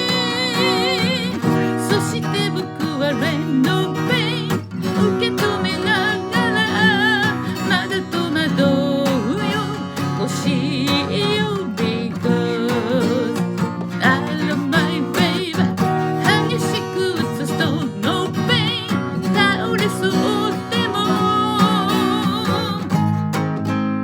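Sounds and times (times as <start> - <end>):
person singing with vibrato: 0.0 - 23.1
acoustic guitar strumming: 0.0 - 24.0.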